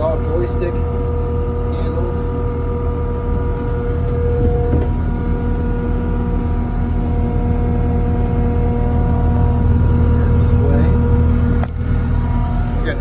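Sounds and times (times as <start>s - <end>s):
diesel engine running: 0.0s - 13.0s
steady whine: 0.0s - 13.0s.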